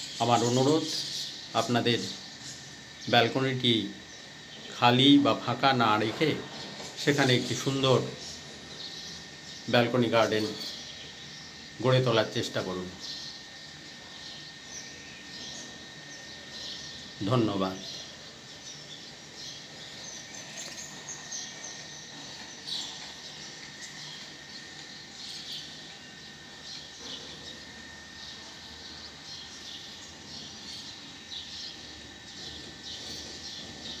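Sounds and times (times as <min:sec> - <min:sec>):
birds chirping: 0:00.0 - 0:34.0
outdoor background noise: 0:00.0 - 0:34.0.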